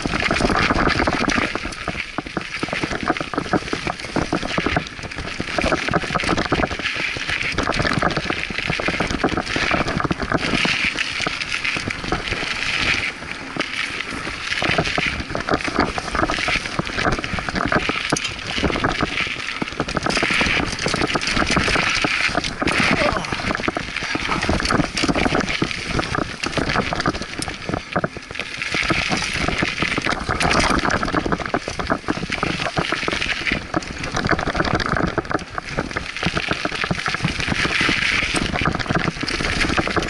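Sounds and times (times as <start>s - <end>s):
bicycle frame rattling: 0.0s - 40.0s
wind on microphone: 0.0s - 40.0s.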